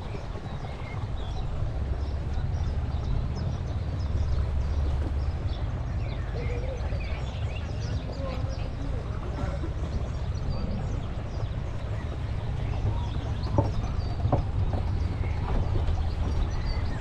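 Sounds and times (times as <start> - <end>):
small birds chirping: 0.0 - 17.0
wind rumble on microphone: 0.0 - 17.0.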